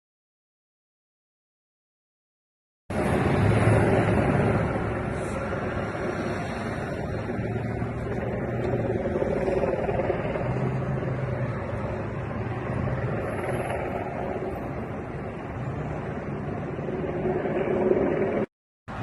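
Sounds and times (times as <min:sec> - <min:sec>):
outdoor noise: 0:02.9 - 0:19.0
vehicle engines running: 0:02.9 - 0:19.0.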